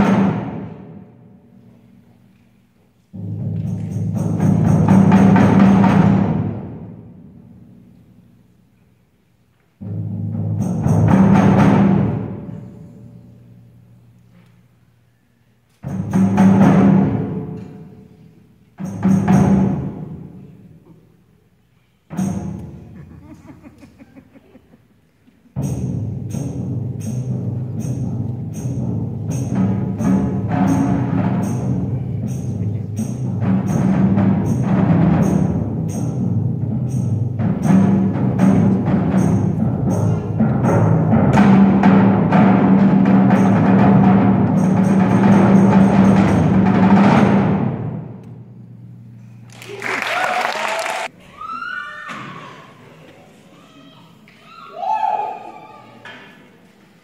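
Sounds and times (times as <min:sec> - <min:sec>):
percussion ensemble playing: 0:00.0 - 0:02.0, 0:03.0 - 0:08.7, 0:09.8 - 0:13.9, 0:15.8 - 0:20.7, 0:22.1 - 0:51.2.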